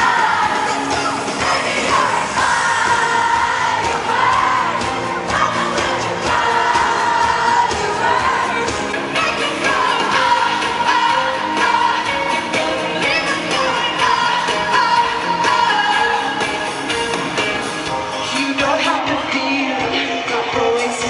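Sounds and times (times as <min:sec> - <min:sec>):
live band playing: 0:00.0 - 0:21.0
woman singing: 0:01.4 - 0:16.5, 0:18.2 - 0:21.0.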